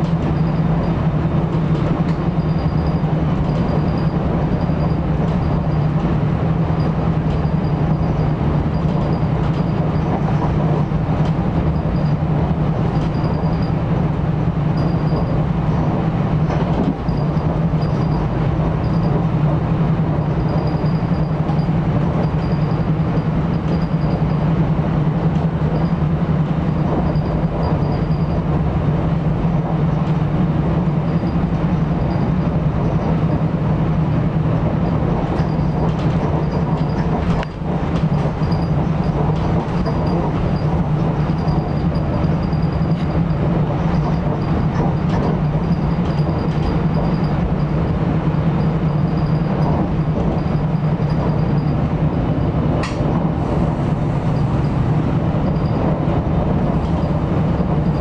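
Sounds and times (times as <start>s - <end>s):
train rumble with low hum: 0.0s - 58.0s.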